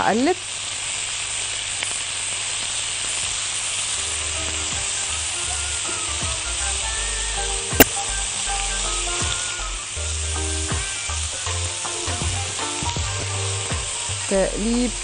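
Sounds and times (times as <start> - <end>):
onions and steak sizzling: 0.0 - 15.0.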